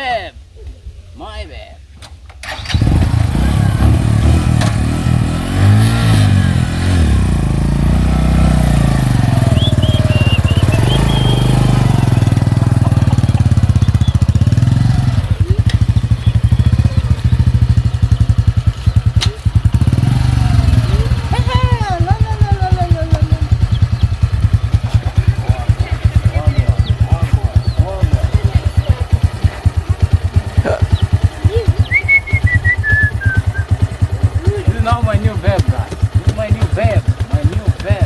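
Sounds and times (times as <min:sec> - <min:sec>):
small motorcycle engine revving: 0:02.4 - 0:38.0.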